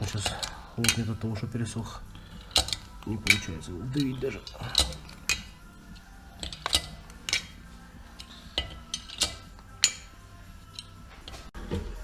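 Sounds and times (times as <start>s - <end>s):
metal parts clinking and tapping: 0.0s - 1.2s, 2.2s - 11.5s.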